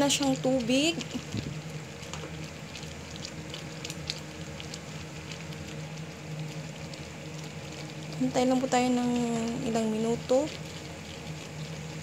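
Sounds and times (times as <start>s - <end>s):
noodles sizzling in a pan: 0.0s - 12.0s.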